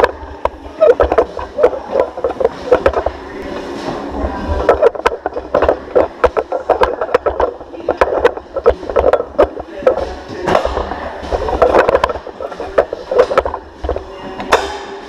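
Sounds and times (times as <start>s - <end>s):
sharp knocks and rattles: 0.0s - 3.2s, 4.5s - 14.8s.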